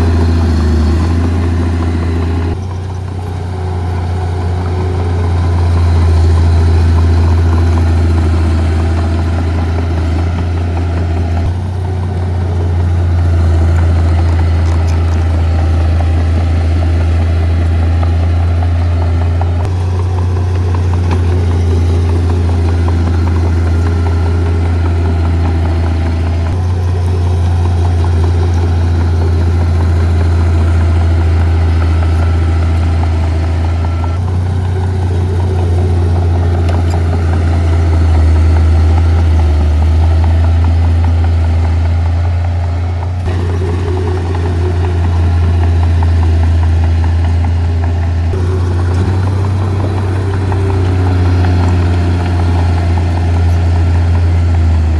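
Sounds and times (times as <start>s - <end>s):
diesel machinery engine drone: 0.0s - 54.9s.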